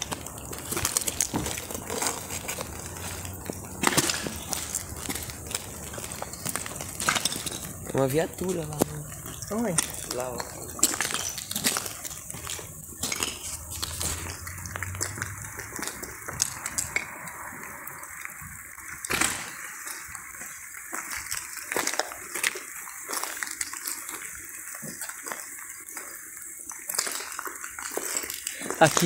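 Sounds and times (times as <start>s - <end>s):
steady hiss: 0.0s - 26.9s
footsteps: 0.0s - 29.0s.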